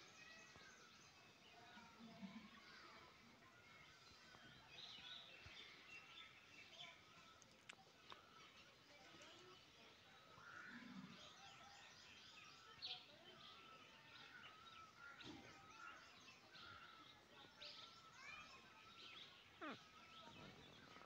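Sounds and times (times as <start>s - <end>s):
birds chirping and twittering: 0.0s - 2.0s, 2.6s - 21.0s.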